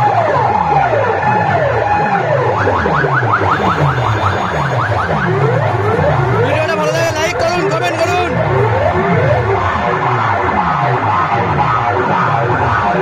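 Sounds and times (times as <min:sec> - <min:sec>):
electronic music over loudspeakers: 0:00.0 - 0:13.0.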